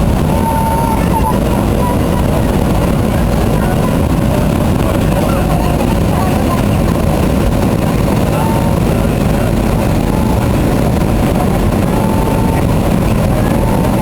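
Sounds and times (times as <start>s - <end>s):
airliner engine drone: 0.0s - 14.0s
rushing airflow: 0.0s - 14.0s.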